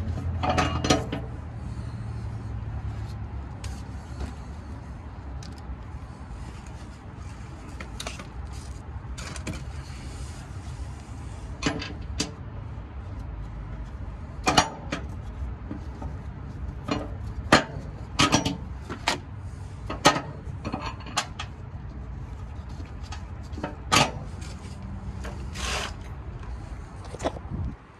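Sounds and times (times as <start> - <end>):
steady low rumble: 0.0 - 27.9.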